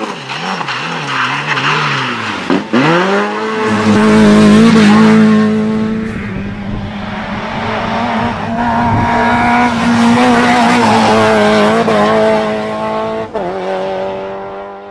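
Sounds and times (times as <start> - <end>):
rally car engine at high revs: 0.0 - 14.9.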